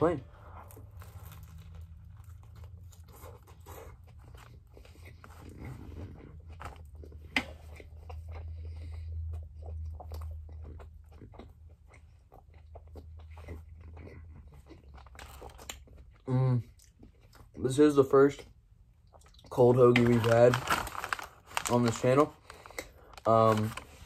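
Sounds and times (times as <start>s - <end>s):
chewing crunchy bread: 0.4s - 24.0s.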